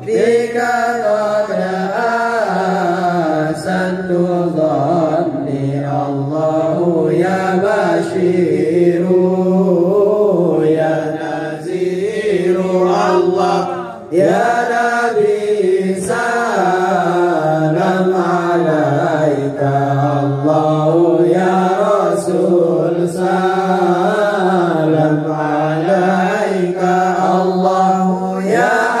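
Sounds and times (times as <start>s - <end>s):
men chanting together: 0.0s - 29.0s.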